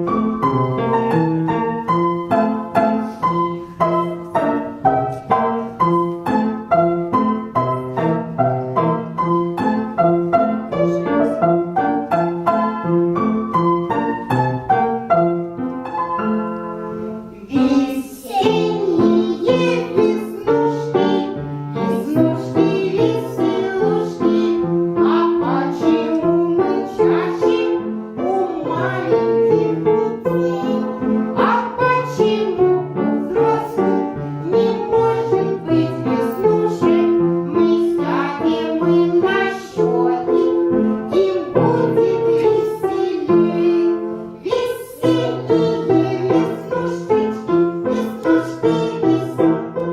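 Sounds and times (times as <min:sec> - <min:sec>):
children singing: 0:00.0 - 0:15.1, 0:16.8 - 0:49.9
piano accompaniment: 0:00.0 - 0:49.9.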